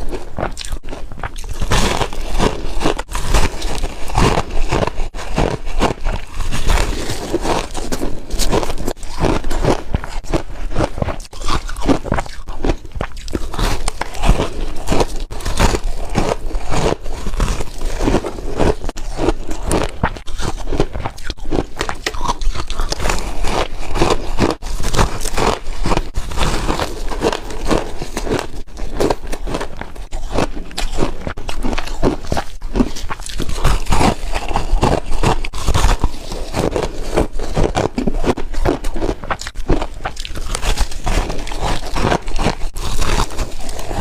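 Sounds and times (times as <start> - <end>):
person crunching ice: 0.0 - 44.0.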